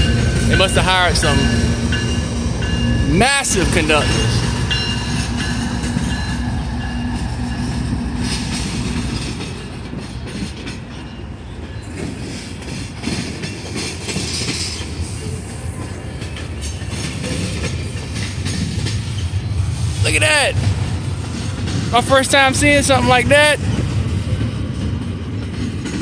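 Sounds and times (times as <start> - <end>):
wheels clicking over rail joints: 0.0 - 20.0, 20.6 - 26.0
diesel locomotive hum: 0.0 - 26.0
freight train rumbling: 0.0 - 26.0.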